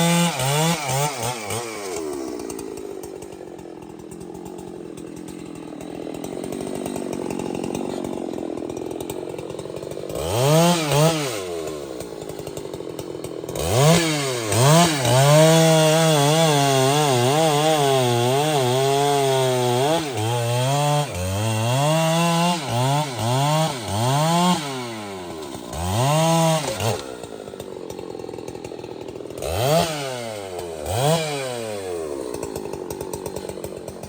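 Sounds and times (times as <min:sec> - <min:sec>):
chainsaw revving and idling: 0:00.0 - 0:34.0.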